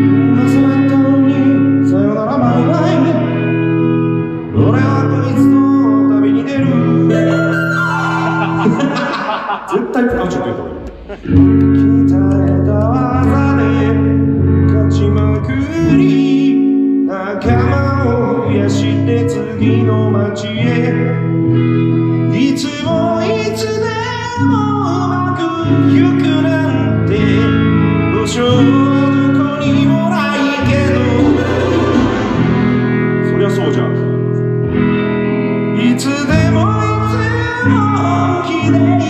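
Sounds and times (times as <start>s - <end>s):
electric bass: 0.0s - 9.0s, 10.0s - 39.0s
person singing: 0.0s - 34.2s, 35.7s - 39.0s
electric guitar: 0.0s - 39.0s.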